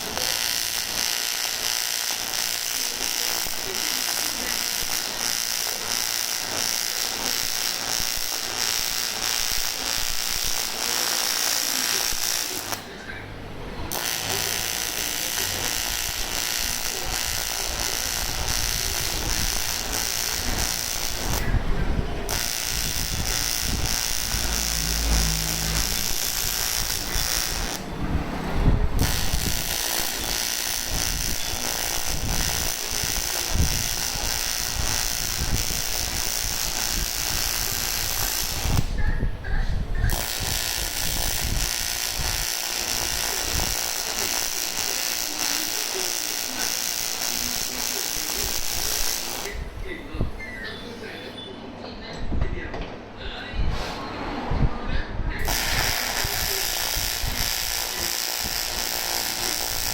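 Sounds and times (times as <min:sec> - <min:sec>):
welding arc buzzing hiss: 0:00.0 - 0:39.1, 0:39.9 - 0:50.0, 0:55.4 - 0:59.9.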